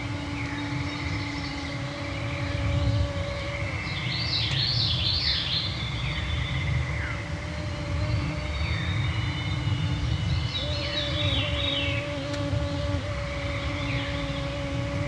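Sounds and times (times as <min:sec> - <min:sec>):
mosquitoes whining: 0:00.0 - 0:15.0.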